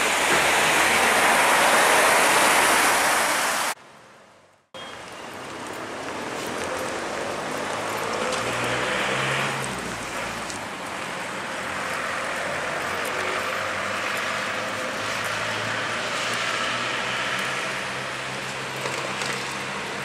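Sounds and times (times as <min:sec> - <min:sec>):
cars passing: 0:00.0 - 0:03.8, 0:04.8 - 0:20.0
road traffic hum: 0:00.0 - 0:20.0.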